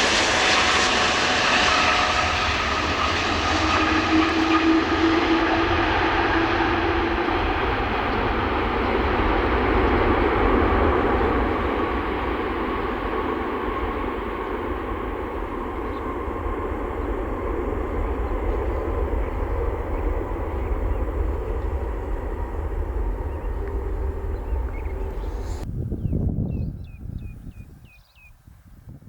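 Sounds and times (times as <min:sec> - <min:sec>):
jet engine noise: 0:00.0 - 0:27.8
wind on microphone: 0:00.0 - 0:29.0.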